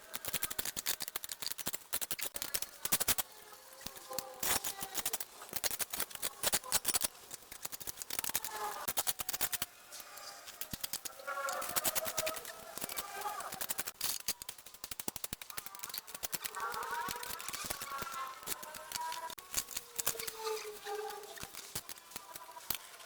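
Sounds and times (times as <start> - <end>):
hand shears snipping: 0.0 - 23.0.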